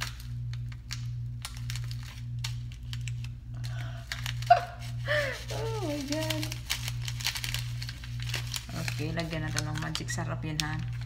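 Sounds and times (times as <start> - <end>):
sachet crinkling and tearing: 0.0 - 11.0.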